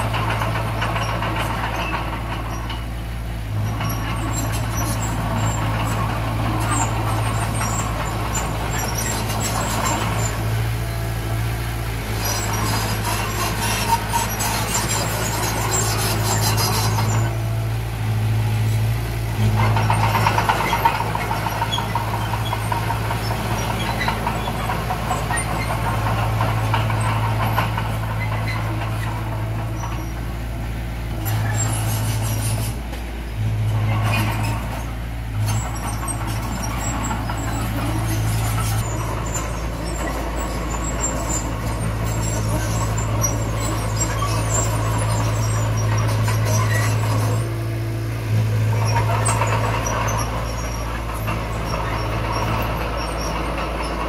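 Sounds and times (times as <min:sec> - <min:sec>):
diesel engine humming: 0:00.0 - 0:54.0
mechanical noise and squeaks: 0:00.0 - 0:54.0.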